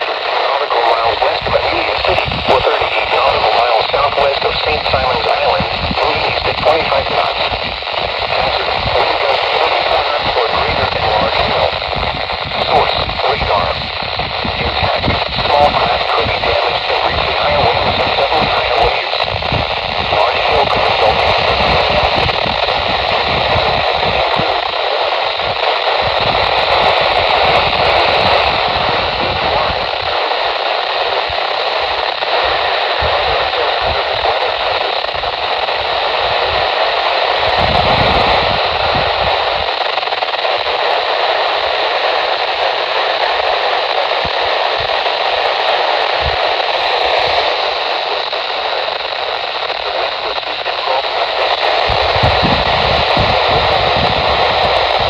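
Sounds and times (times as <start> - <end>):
faint voice on radio: 0.0 - 55.0
radio static hiss: 0.0 - 55.0.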